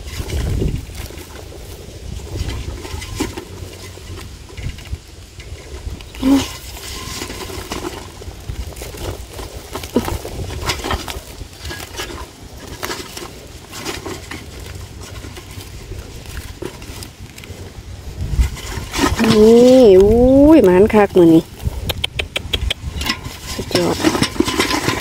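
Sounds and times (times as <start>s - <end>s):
mesh bag rustling against bucket: 0.0s - 21.9s, 22.6s - 25.0s
light clicks and bumps: 0.0s - 25.0s.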